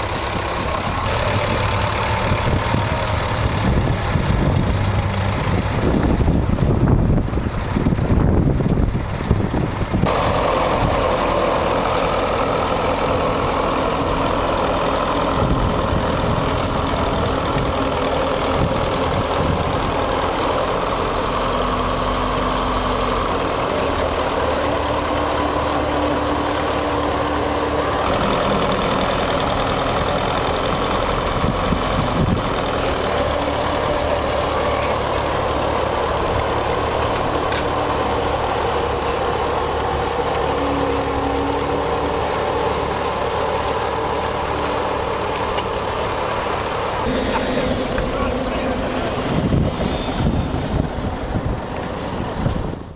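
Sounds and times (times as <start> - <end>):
tractor diesel engines running: 0.0 - 52.9.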